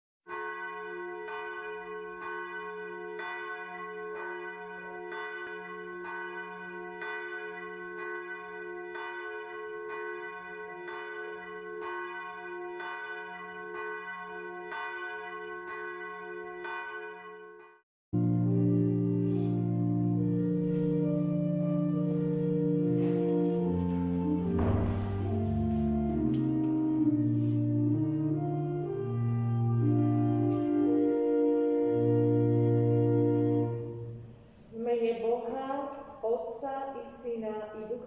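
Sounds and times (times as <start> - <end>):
church bell tolling: 0.3 - 34.5.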